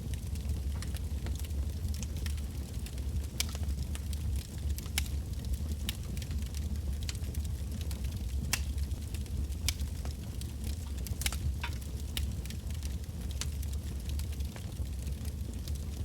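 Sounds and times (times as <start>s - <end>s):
burning logs crackling and popping: 0.0s - 16.0s
flames rumbling: 0.0s - 16.0s.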